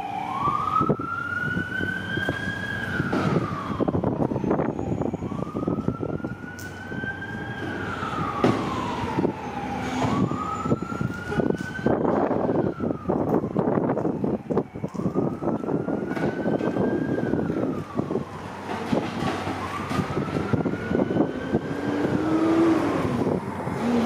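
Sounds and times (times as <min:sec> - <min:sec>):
fire siren wailing: 0:00.0 - 0:24.0.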